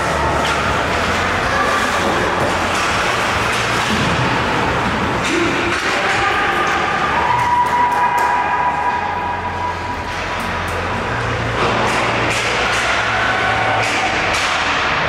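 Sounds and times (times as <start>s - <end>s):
ice hockey rink din: 0.0s - 15.0s.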